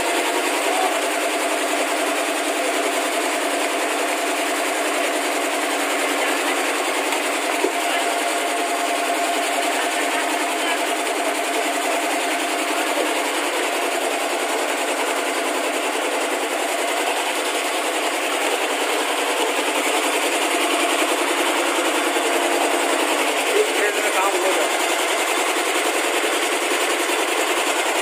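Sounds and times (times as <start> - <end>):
machinery running: 0.0 - 28.0.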